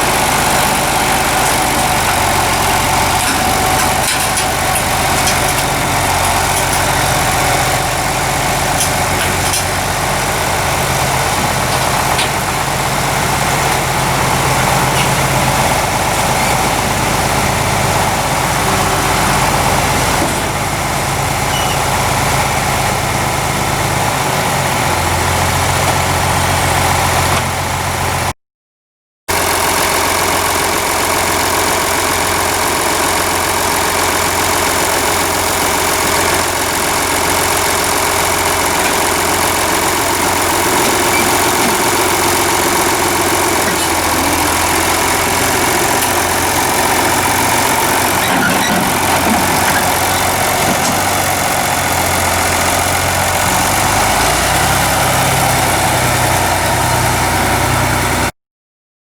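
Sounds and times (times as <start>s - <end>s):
engine running: 0.0s - 28.3s, 29.3s - 58.3s.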